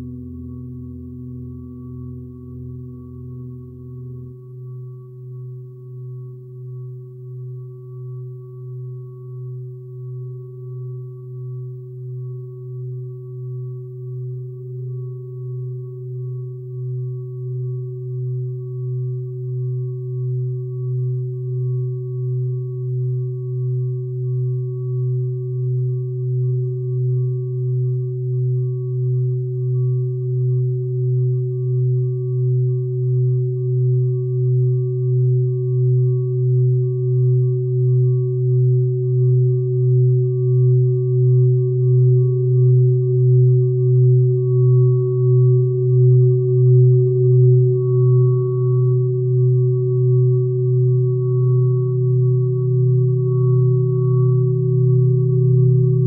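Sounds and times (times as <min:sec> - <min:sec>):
drone music of sine tones: 0:00.0 - 0:56.0.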